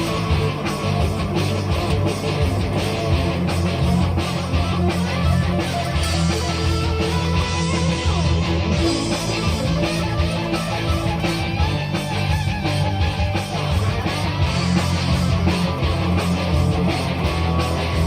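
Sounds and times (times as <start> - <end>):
heavy bass line: 0.0 - 18.0
rock guitar playing: 0.0 - 18.0.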